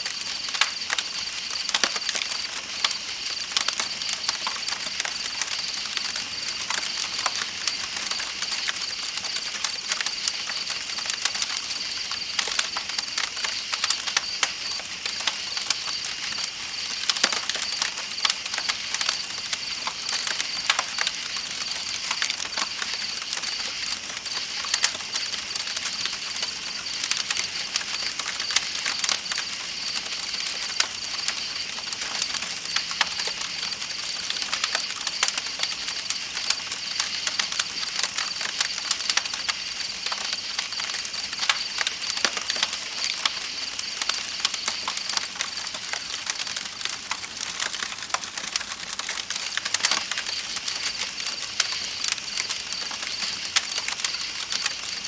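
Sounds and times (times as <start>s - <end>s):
campfire crackling and popping: 0.0s - 55.0s
night insects chirping: 0.0s - 55.0s.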